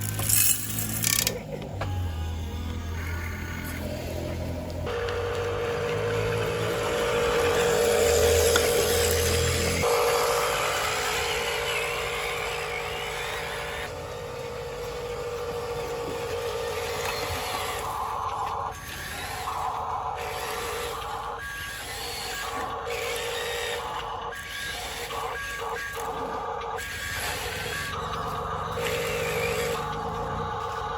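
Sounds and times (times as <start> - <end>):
toy motor warbling whine: 0.0 - 30.9.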